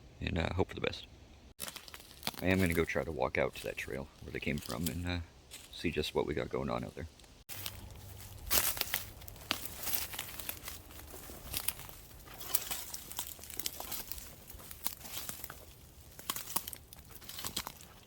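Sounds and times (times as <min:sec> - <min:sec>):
footsteps crunching through dry leaves: 0:01.6 - 0:05.9, 0:07.5 - 0:18.0.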